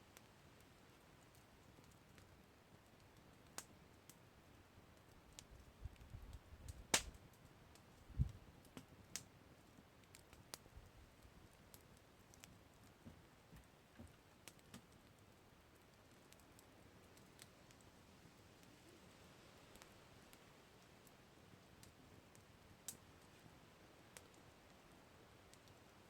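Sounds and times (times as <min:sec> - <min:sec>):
campfire wood crackling: 0:00.0 - 0:26.0.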